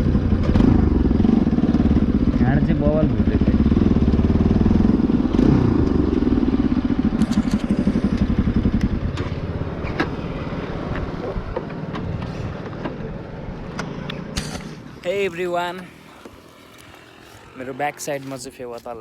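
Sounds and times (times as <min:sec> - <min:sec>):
motorcycle engine running: 0:00.0 - 0:18.3.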